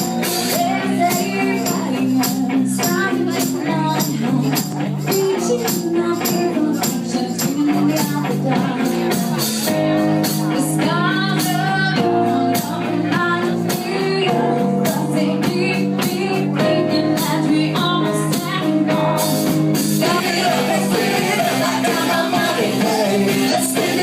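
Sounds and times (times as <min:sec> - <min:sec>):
band playing pop-rock song: 0:00.0 - 0:24.0
steady drum beat: 0:00.0 - 0:24.0.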